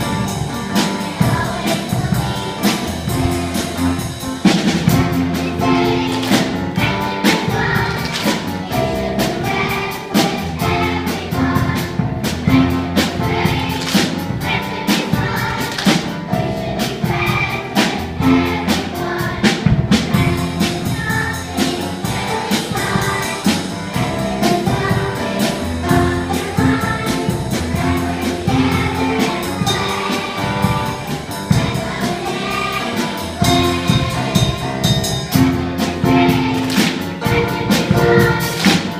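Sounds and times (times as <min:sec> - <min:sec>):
group of voices singing: 0:00.0 - 0:04.0, 0:05.2 - 0:38.9
upbeat backing music: 0:00.0 - 0:38.9.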